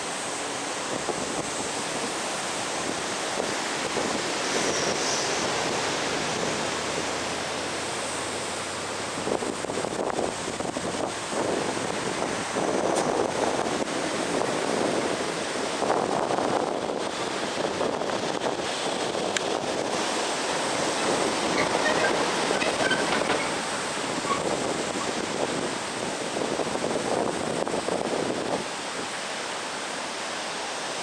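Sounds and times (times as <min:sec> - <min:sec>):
wind noise on microphone: 0:00.0 - 0:29.3
heavy surf breaking: 0:00.0 - 0:31.0.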